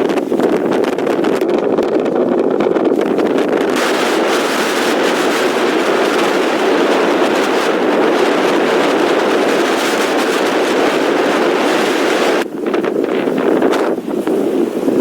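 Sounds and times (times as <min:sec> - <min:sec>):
hurricane-force wind roaring: 0:00.0 - 0:15.0
storm surf on beach: 0:00.0 - 0:15.0
wind buffeting microphone: 0:00.0 - 0:15.0.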